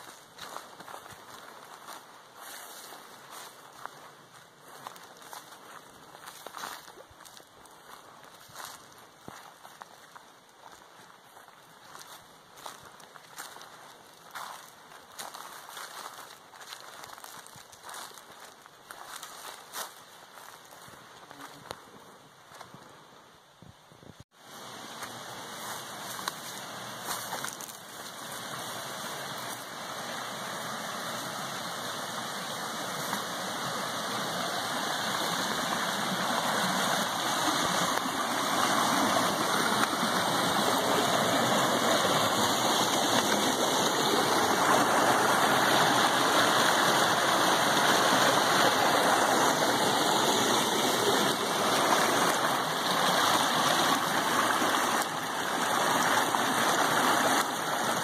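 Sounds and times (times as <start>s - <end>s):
stream rushing over rocks: 0.0s - 21.8s, 24.3s - 58.0s.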